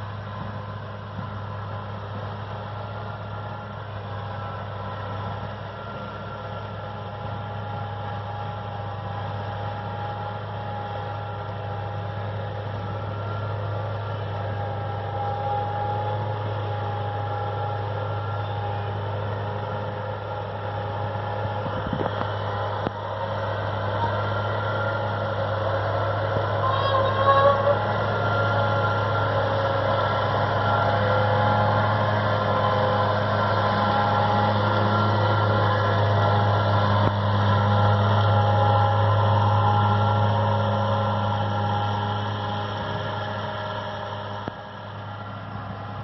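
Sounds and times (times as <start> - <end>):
steady high whine: 0.0 - 46.0
tractor diesel engine running: 0.0 - 46.0.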